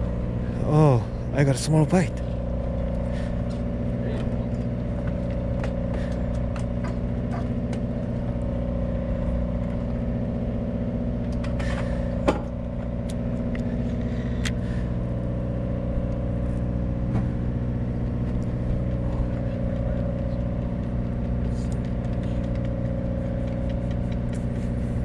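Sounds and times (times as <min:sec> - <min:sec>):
boat engine low hum: 0:00.0 - 0:25.0.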